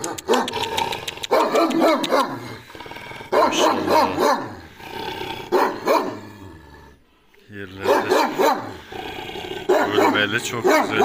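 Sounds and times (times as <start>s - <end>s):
large dog barking deeply: 0.0s - 6.6s, 7.7s - 11.0s.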